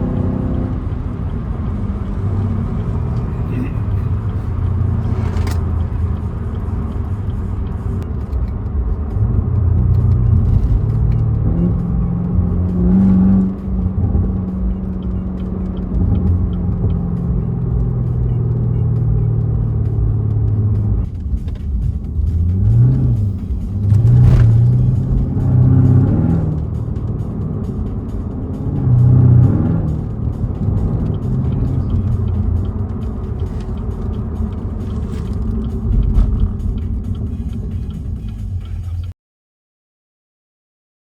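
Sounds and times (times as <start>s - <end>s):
car engine accelerating: 0.0s - 39.2s.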